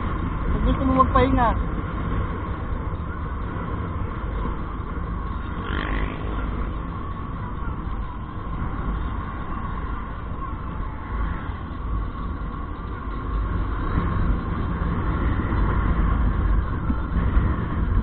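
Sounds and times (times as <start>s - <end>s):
motorcycle engine: 0.0s - 18.0s
rushing wind: 0.0s - 18.0s.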